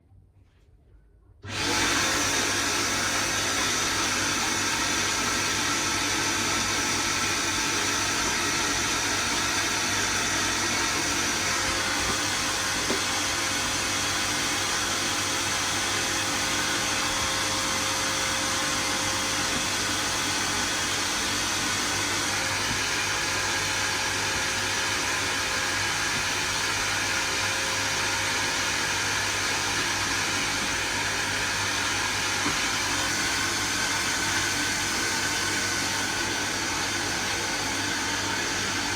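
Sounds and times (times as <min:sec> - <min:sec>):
vacuum cleaner running: 0:01.4 - 0:38.9.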